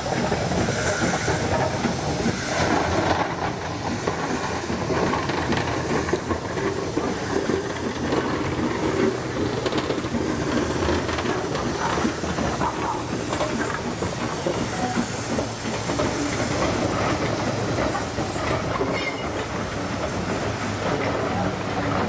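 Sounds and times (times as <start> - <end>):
steady steam hiss: 0.0 - 22.0
train wheels clicking over rail joints: 0.0 - 22.0.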